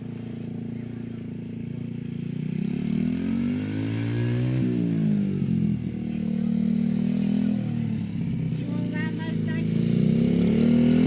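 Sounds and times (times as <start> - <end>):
mini motorcycle engine running: 0.0 - 11.0.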